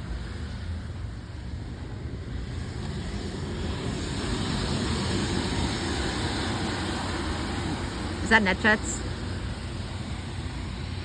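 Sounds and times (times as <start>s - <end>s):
airplane engine rumble: 0.0s - 11.0s.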